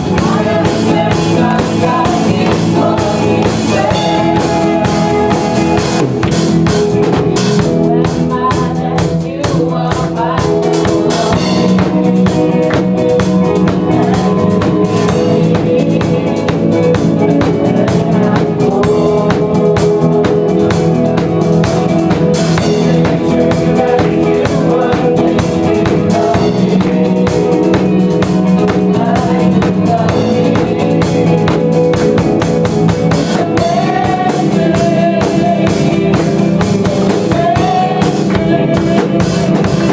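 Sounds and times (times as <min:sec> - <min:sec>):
voices singing: 0:00.0 - 0:39.9
worship song with drums and guitar: 0:00.0 - 0:39.9.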